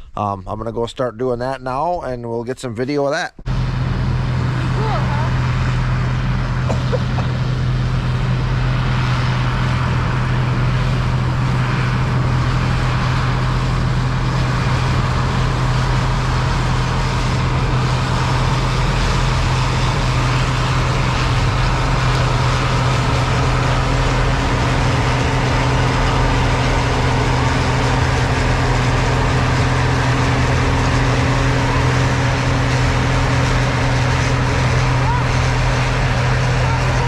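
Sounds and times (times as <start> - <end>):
tractor engine running: 3.4 - 37.0.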